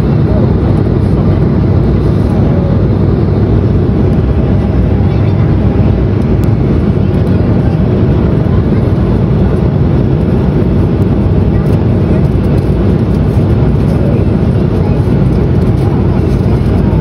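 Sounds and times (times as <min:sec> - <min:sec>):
jet engines in cabin: 0:00.0 - 0:17.0
rush of air: 0:00.0 - 0:17.0.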